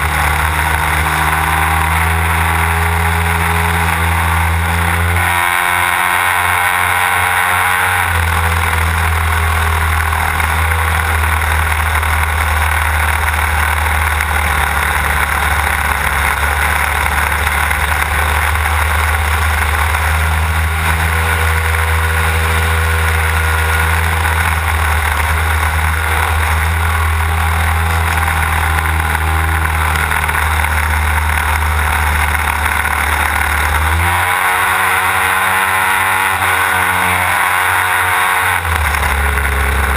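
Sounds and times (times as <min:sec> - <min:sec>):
model plane engine drone: 0:00.0 - 0:39.9.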